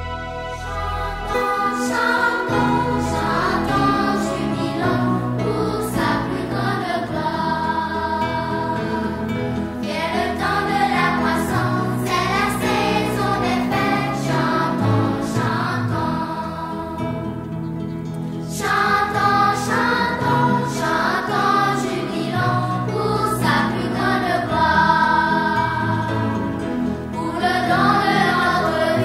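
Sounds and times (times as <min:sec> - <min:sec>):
choir singing: 0:00.0 - 0:17.6, 0:18.4 - 0:29.0
instrumental accompaniment: 0:00.0 - 0:29.0.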